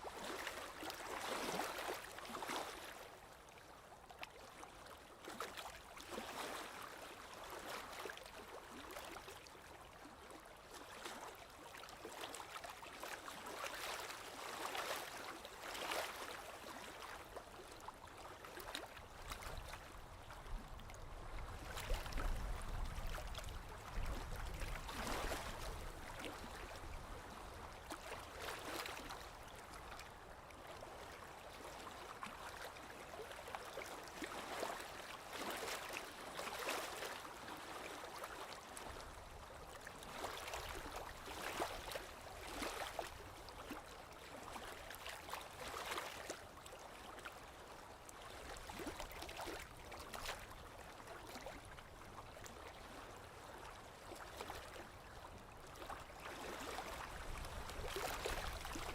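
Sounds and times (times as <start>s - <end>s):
small waves lapping: 0.0s - 58.9s.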